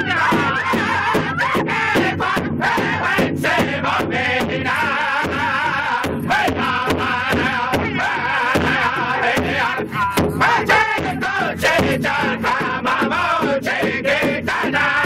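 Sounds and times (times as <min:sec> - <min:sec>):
large drum beating: 0:00.0 - 0:15.0
men singing in high voices: 0:00.0 - 0:15.0.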